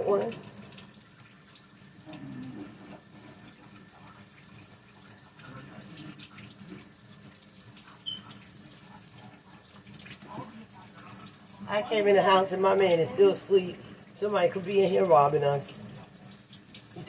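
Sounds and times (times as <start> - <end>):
faucet running into sink: 0.0 - 17.0.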